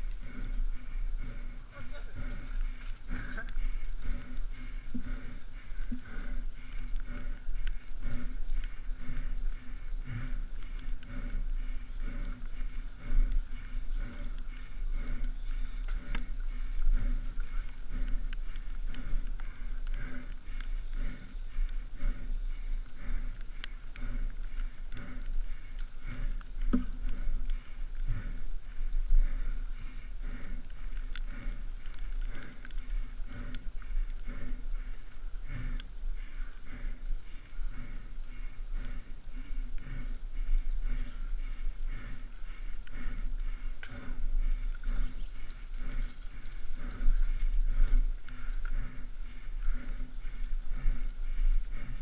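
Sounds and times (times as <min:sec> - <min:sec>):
rider breathing hard: 0:00.0 - 0:52.0
wind rumble on microphone: 0:00.0 - 0:52.0.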